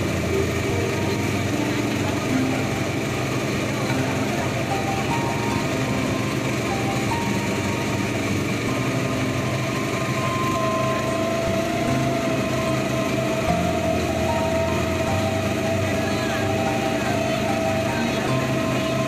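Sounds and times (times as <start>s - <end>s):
boat engine running: 0.0s - 19.0s
water rushing along hull: 0.0s - 19.0s.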